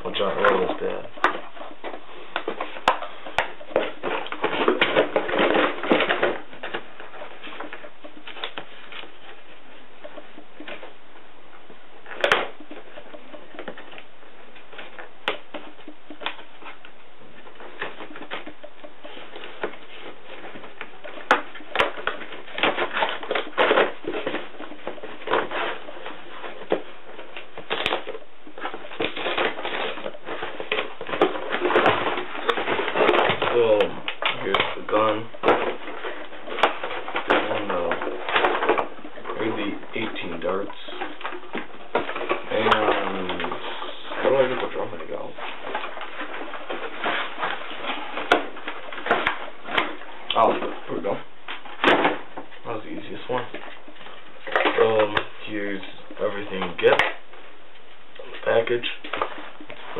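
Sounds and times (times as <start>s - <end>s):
cardboard rustling and scraping: 0.0s - 11.0s, 11.6s - 59.9s.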